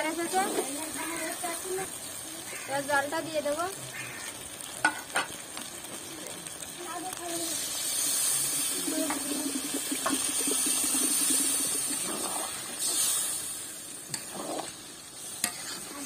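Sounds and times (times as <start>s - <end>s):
water splashing into hot pan: 0.0s - 16.0s.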